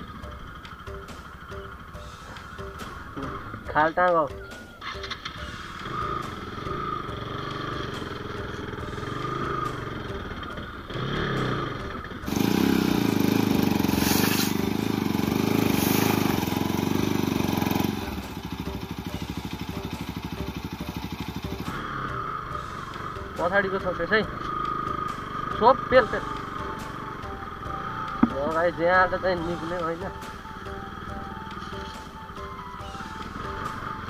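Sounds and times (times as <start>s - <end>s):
motorcycle engine running: 0.0s - 3.8s, 4.4s - 34.0s.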